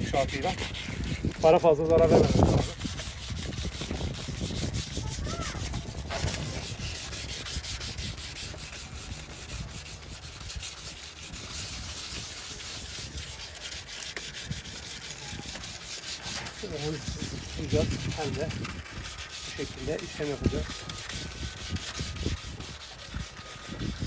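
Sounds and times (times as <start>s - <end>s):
sandpaper rubbing on plastic: 0.0s - 24.0s.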